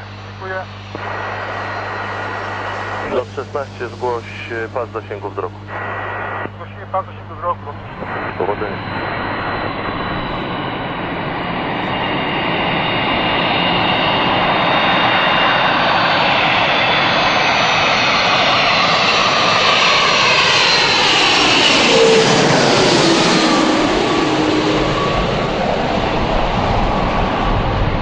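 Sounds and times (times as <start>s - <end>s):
jet airliner engines: 0.0s - 28.0s.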